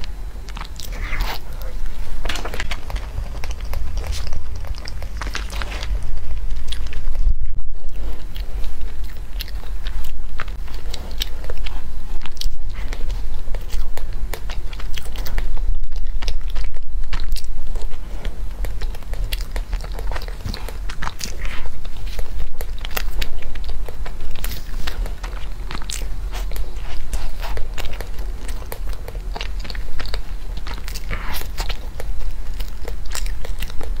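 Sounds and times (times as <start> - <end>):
biting and chewing crusty bread: 0.0 - 34.0
steady low hum: 0.0 - 34.0.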